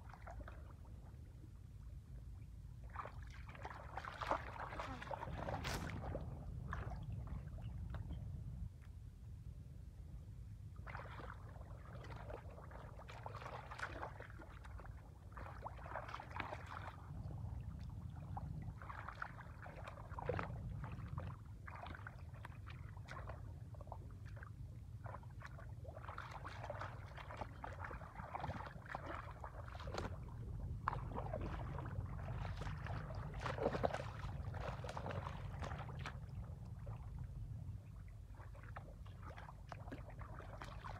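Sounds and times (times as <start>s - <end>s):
muddy water splashing: 0.0s - 1.2s, 2.8s - 8.1s, 10.8s - 40.9s
steady low rumble: 0.0s - 40.9s.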